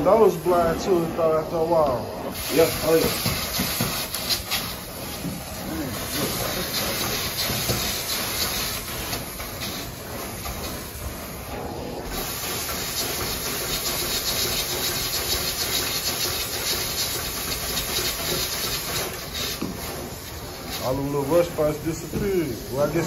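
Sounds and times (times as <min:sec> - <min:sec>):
carpet extraction wand hissing: 0:00.0 - 0:11.4, 0:12.0 - 0:23.0.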